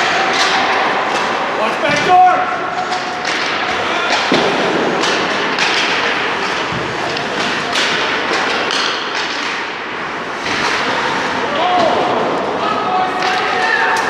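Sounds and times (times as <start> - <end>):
arena crowd din: 0.0 - 14.0
pucks and sticks hitting boards: 0.0 - 14.0.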